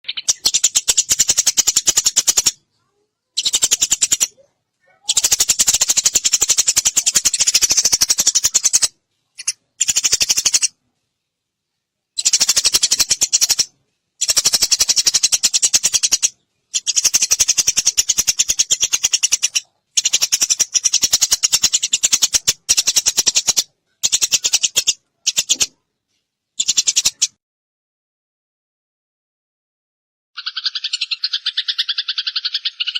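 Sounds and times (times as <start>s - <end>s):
sparrow chattering harsh chirps: 0.0s - 10.8s, 12.2s - 25.8s, 26.6s - 27.4s, 30.4s - 32.9s.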